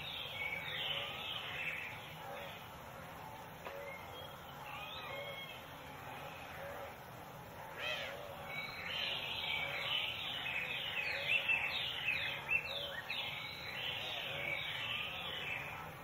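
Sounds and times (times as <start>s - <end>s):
soft low bird calls: 0.0s - 16.0s.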